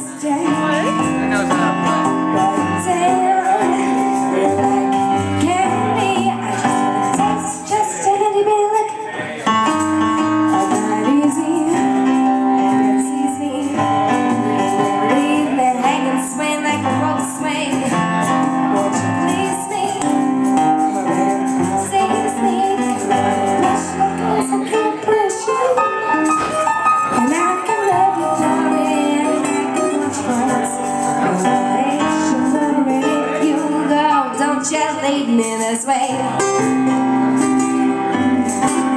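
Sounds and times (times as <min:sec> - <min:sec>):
woman singing: 0:00.0 - 0:01.0, 0:02.0 - 0:09.2, 0:10.1 - 0:38.9
acoustic guitar: 0:00.0 - 0:38.9
digital piano: 0:00.0 - 0:38.9.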